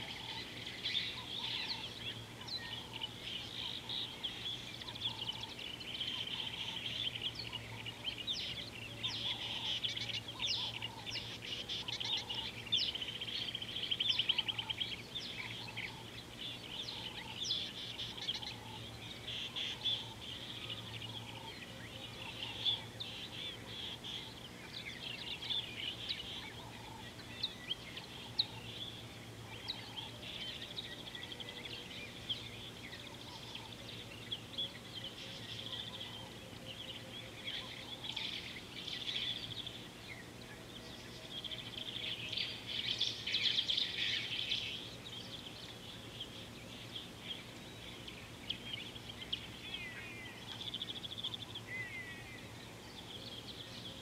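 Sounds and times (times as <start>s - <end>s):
birds chirping and calling: 0.0s - 54.0s
steady low hum: 0.0s - 54.0s.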